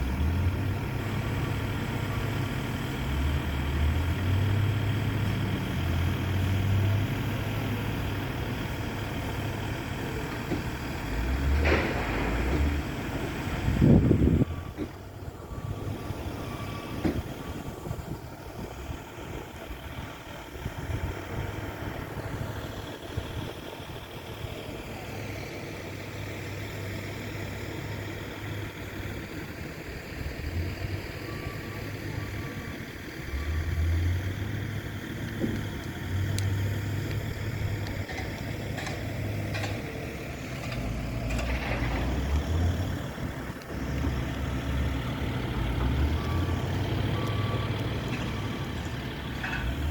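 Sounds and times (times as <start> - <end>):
crane diesel engine running: 0.0 - 49.9.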